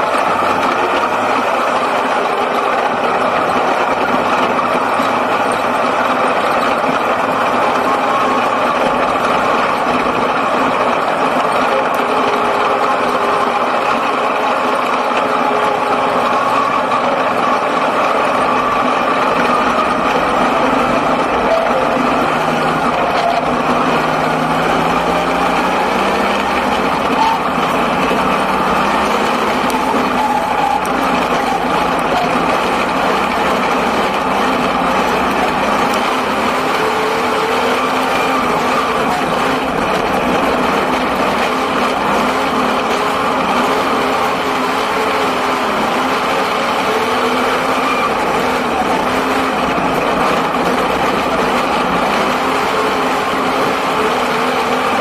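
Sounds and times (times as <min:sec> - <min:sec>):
racing car engine: 0:00.0 - 0:55.0.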